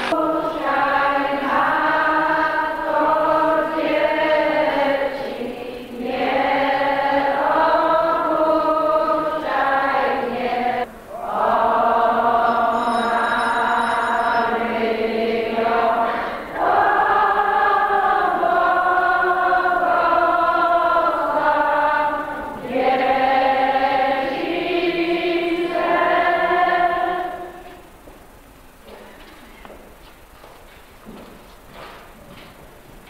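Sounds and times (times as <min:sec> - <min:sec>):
choir singing long notes: 0:00.0 - 0:28.0.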